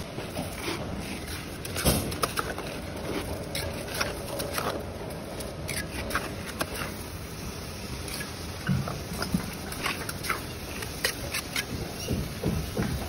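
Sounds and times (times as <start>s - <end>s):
trowel scraping mortar: 0.2s - 7.2s, 8.0s - 12.1s.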